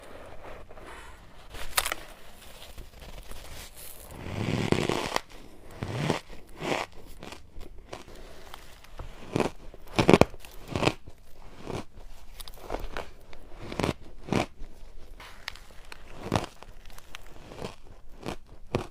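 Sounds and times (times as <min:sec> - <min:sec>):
person crunching shaved ice: 0:01.6 - 0:18.9.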